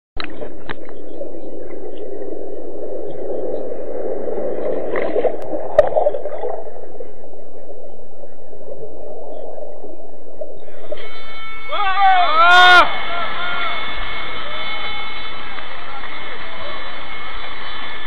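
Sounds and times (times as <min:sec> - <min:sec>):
muffled rush of seawater: 0:00.2 - 0:18.0.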